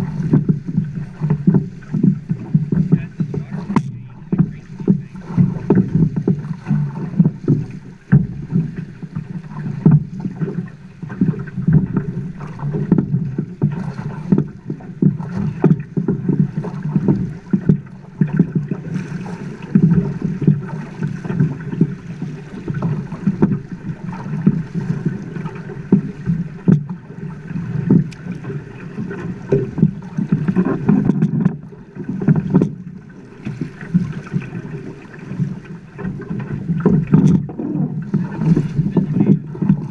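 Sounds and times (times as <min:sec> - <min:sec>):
river water splashing against boat: 0:00.0 - 0:39.9.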